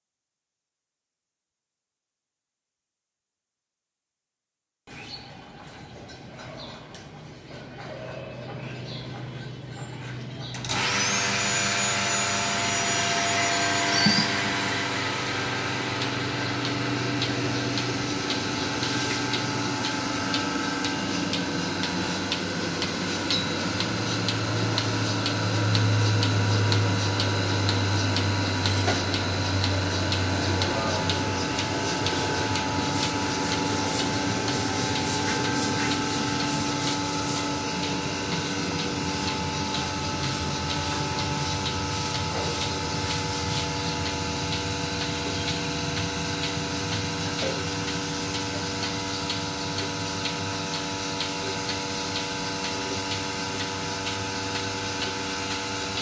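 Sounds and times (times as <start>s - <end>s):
vacuum pump humming: 10.4s - 56.0s.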